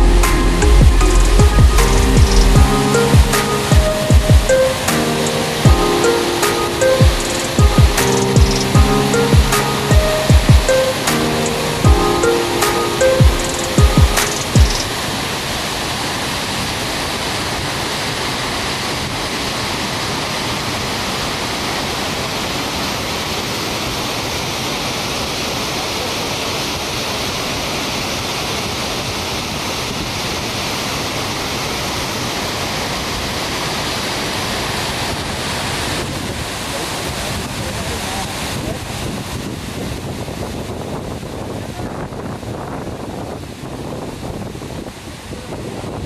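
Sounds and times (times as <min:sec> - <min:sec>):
waterfall rushing: 0:00.0 - 0:41.8.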